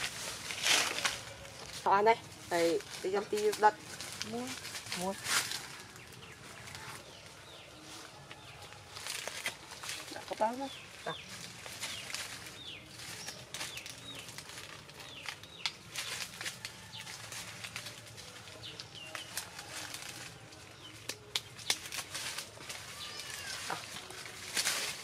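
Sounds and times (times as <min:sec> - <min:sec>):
dry leaves crunching: 0:00.0 - 0:25.0.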